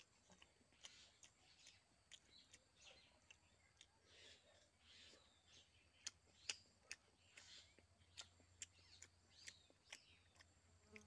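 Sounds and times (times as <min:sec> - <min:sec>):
bird chirps: 0:00.0 - 0:11.0
chewing mouth clicks and smacks: 0:00.0 - 0:11.0.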